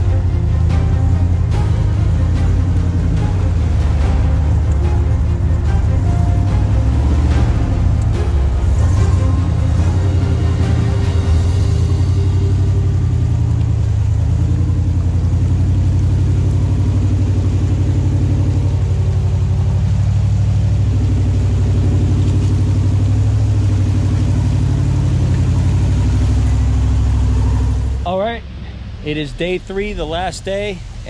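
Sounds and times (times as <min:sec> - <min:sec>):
off-road vehicle engine rumbling: 0:00.0 - 0:31.0.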